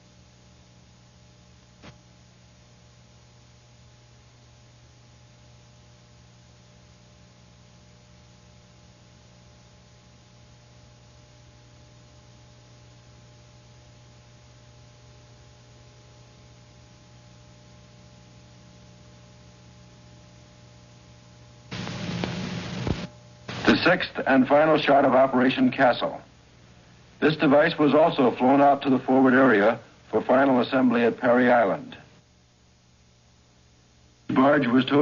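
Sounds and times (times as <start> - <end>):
electrical hum with hiss: 0.0 - 35.0.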